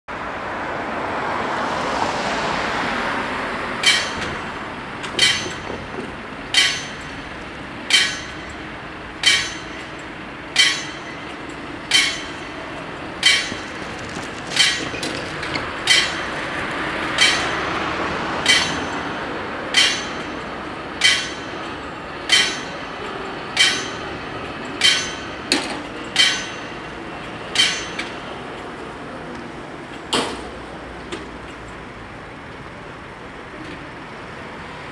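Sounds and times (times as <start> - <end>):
level crossing warning bells: 3.7 - 32.5.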